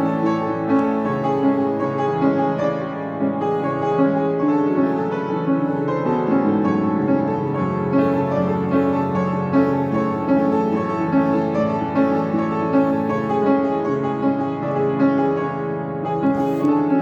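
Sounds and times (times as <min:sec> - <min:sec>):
piano piece: 0:00.0 - 0:17.0.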